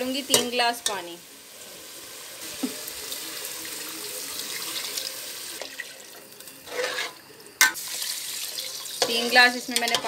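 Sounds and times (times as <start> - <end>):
water pouring into a pot: 1.4 - 9.6.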